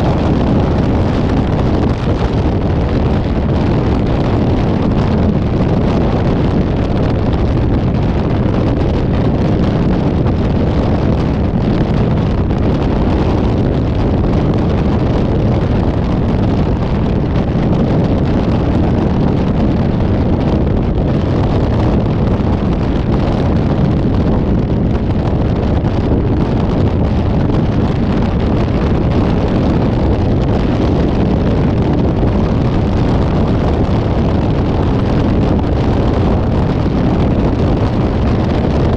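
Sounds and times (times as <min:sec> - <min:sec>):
wind and road noise of vehicle: 0:00.0 - 0:38.9.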